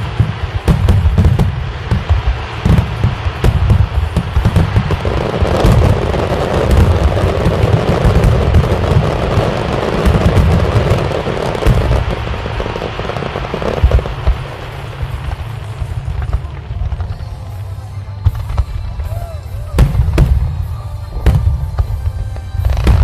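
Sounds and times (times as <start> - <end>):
fireworks booming: 0.0 - 23.0
fireworks crackling pops: 0.0 - 23.0.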